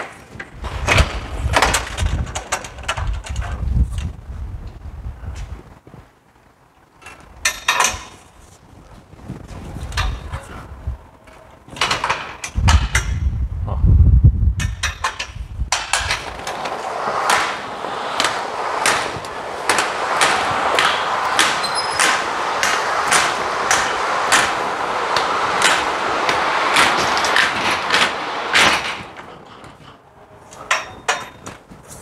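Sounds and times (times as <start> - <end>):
sliding roof rolling rattle: 0.0 - 5.0, 6.7 - 13.4, 14.6 - 32.0.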